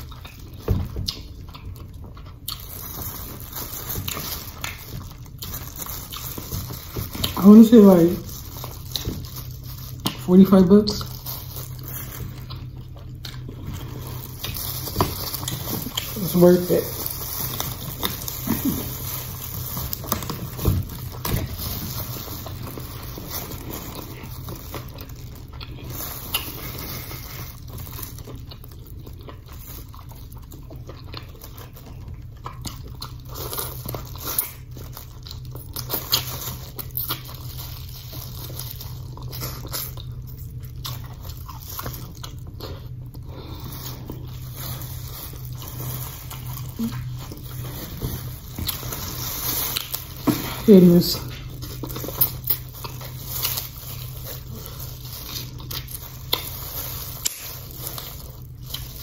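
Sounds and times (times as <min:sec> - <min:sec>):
chewing and lip-smacking: 0:00.0 - 0:50.6, 0:51.2 - 0:59.0
steady low hum: 0:00.0 - 0:59.0.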